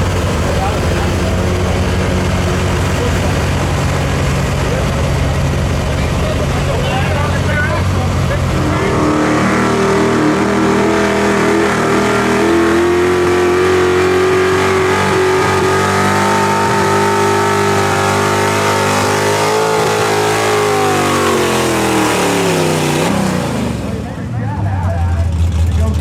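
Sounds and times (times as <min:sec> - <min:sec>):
engine running at high revs: 0:00.0 - 0:26.0.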